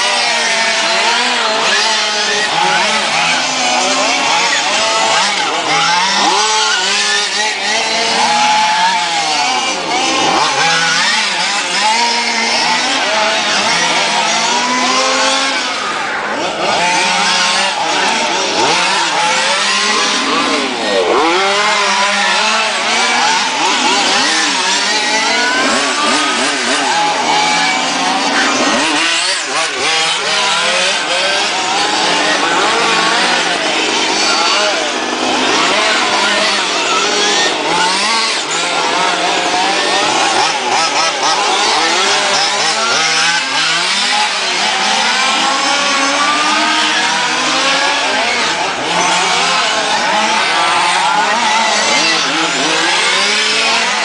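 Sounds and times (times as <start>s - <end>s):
model race car motors: 0.0s - 54.0s.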